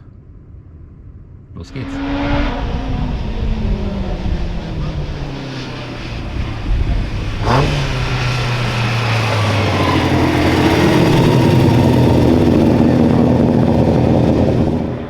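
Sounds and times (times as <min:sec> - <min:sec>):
race car engine at high revs: 0:01.7 - 0:15.0.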